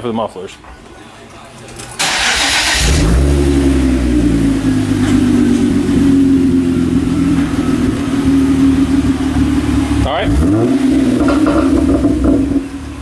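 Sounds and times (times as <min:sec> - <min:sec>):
car engine idling: 0:02.0 - 0:13.0.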